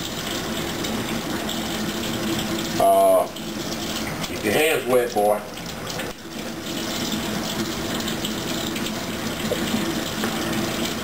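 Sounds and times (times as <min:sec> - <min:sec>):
faucet water running into sink: 0:00.0 - 0:11.0.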